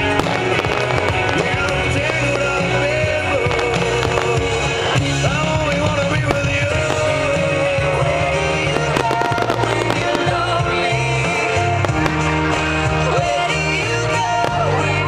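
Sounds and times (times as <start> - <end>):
firework bangs and crackles: 0.0 - 15.0
loud rock music with singing: 0.0 - 15.0.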